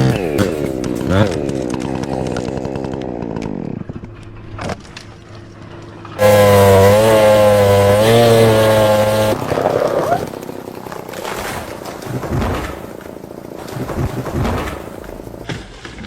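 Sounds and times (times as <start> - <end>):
chainsaw engine revving: 0.0 - 4.8, 6.1 - 15.5.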